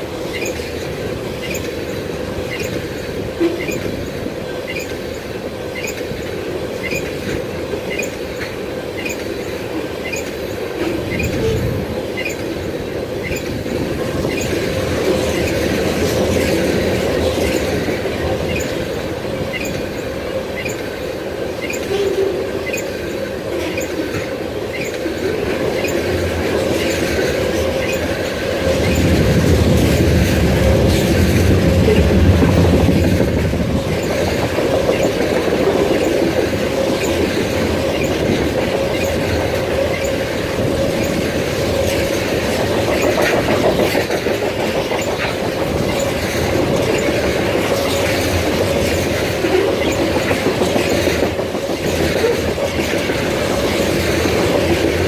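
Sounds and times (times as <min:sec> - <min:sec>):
freight train rolling past: 0:00.0 - 0:55.0
wheels clacking over rail joints: 0:00.0 - 0:55.0.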